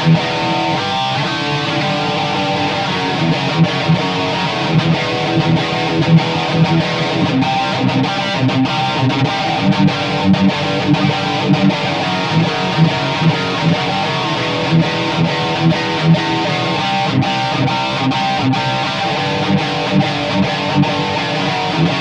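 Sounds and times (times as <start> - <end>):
distorted electric guitar riffing: 0.0 - 22.0.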